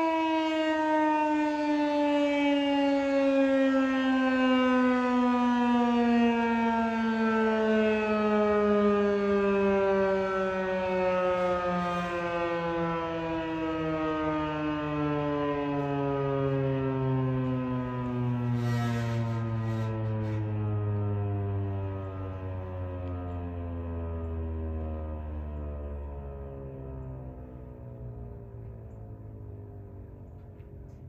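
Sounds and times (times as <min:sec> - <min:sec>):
warning siren winding down: 0:00.0 - 0:31.0.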